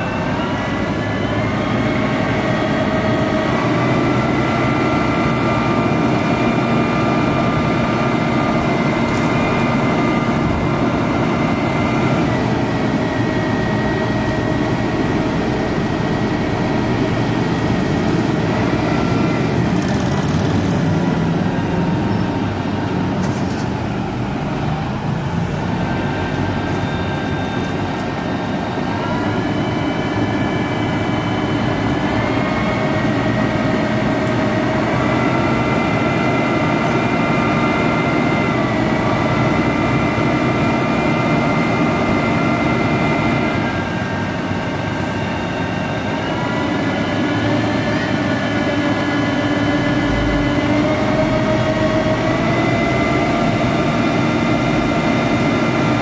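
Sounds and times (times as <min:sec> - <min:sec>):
diesel engine at raised revs: 0:00.0 - 0:56.0.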